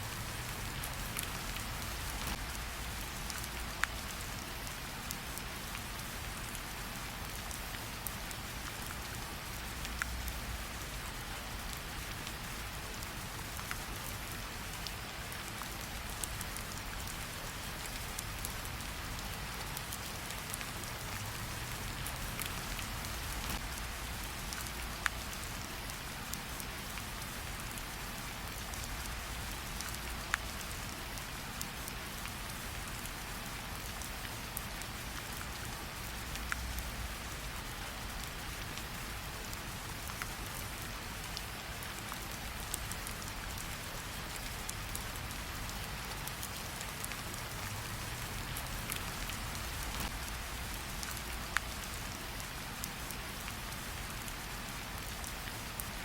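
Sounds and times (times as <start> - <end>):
rain hiss: 0.0 - 56.0
campfire crackle: 0.1 - 55.9.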